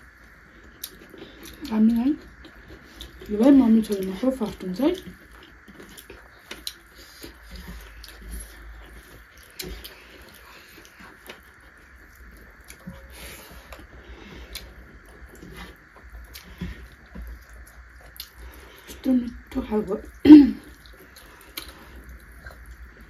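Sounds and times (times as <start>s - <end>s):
faint low hum: 0.0s - 23.0s
chewing and lip smacks: 0.2s - 19.0s, 20.6s - 23.0s.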